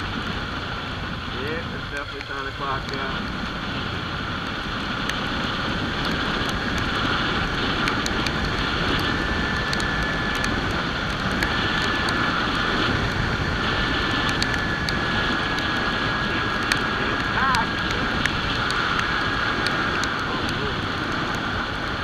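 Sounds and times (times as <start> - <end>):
motorcycle engine drone: 0.0 - 22.0
wind rush over microphone: 0.0 - 22.0
raindrops ticking on microphone: 0.2 - 22.0.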